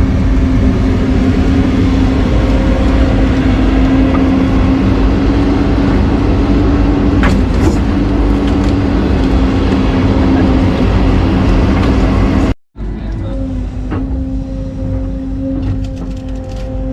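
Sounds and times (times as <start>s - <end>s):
diesel engine humming: 0.0s - 16.9s.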